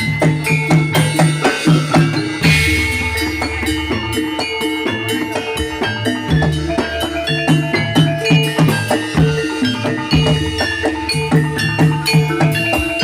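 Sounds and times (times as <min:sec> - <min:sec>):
gamelan drums: 0:00.0 - 0:13.0
metallophones struck notes: 0:00.0 - 0:13.0.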